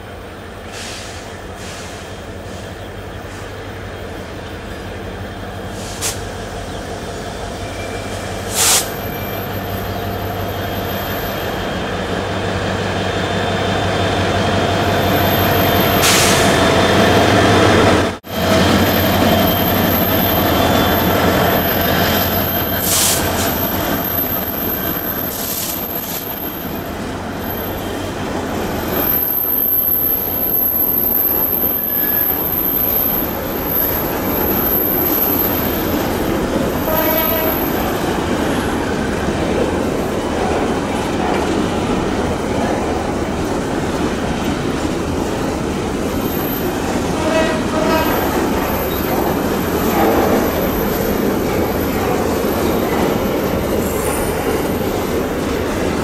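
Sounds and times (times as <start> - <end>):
diesel locomotive engines rumbling: 0.0 - 56.0.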